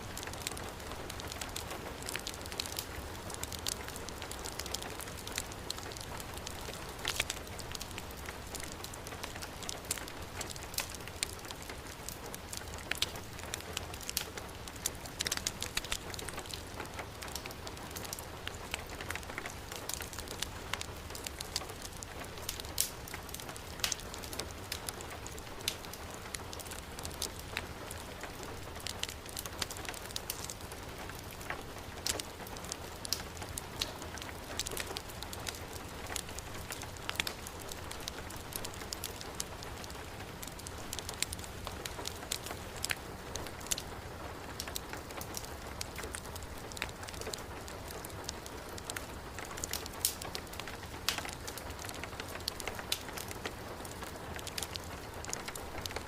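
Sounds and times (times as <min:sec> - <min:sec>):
heavy rain falling: 0:00.0 - 0:56.0
wood fire crackling and popping: 0:00.0 - 0:56.0.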